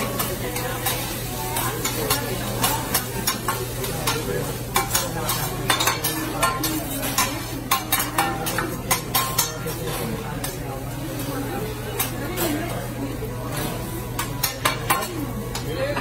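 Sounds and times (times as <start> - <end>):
fried rice sizzling: 0.0 - 15.8
metal spatulas clacking on griddle: 0.1 - 10.6, 11.9 - 12.5, 13.6 - 16.0.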